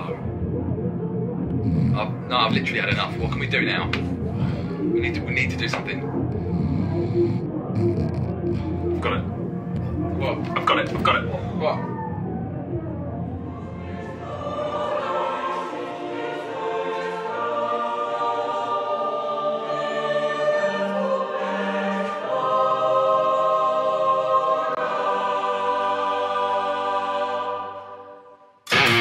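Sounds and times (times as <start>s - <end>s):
choir singing held chords: 0.0s - 29.0s.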